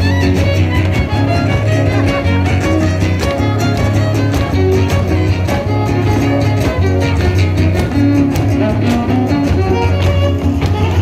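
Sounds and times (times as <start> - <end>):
strummed guitars: 0.0 - 11.0
violin melody: 0.0 - 11.0.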